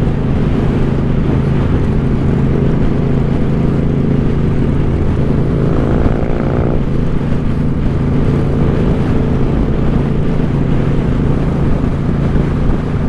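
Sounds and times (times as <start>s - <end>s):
high rising whine: 0.0s - 13.0s
motorcycle engine running: 0.0s - 13.0s
riding wind rush: 0.0s - 13.0s.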